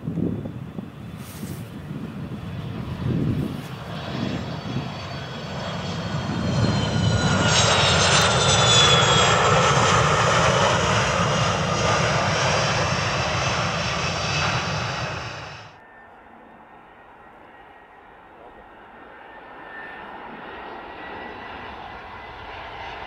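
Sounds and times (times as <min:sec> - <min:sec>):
jet airliner turbofans whining: 0:00.0 - 0:23.0.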